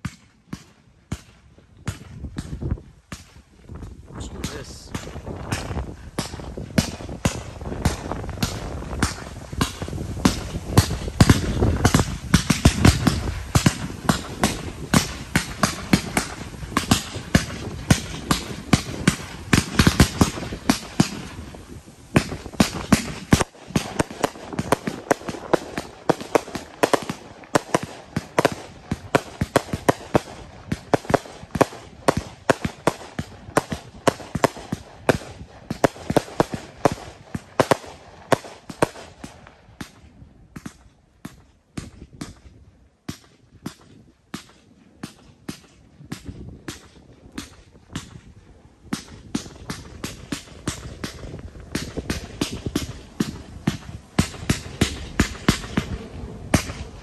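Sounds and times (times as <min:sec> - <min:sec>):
deep fireworks rumble: 0:00.0 - 0:57.0
fireworks bangs and crackles: 0:00.0 - 0:57.0.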